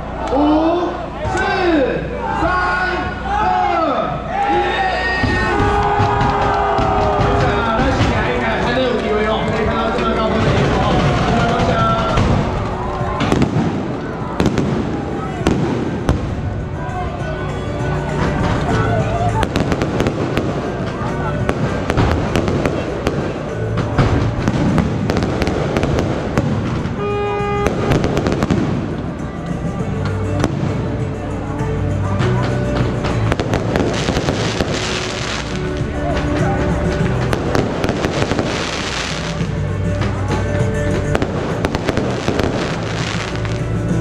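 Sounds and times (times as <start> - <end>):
loud music: 0.0 - 44.0
fireworks bangs and crackles: 5.2 - 31.6, 32.2 - 44.0.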